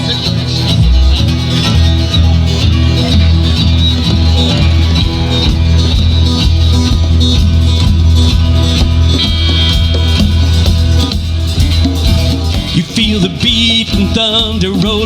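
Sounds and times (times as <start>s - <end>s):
band playing instrumental: 0.0s - 15.0s.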